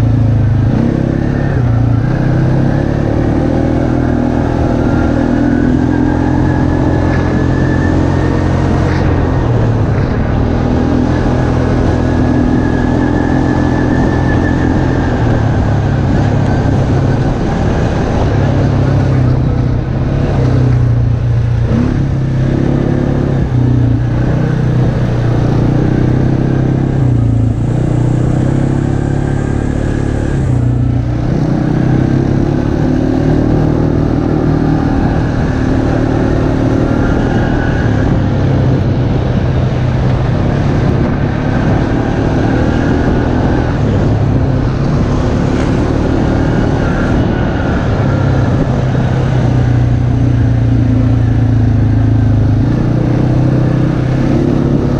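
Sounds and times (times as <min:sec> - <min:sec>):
off-road vehicle engine: 0:00.0 - 0:54.9.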